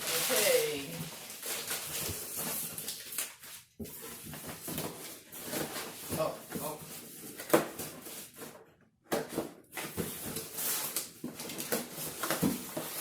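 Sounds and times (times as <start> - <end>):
packaging rustling and crinkling: 0.0 - 8.5, 9.2 - 13.0.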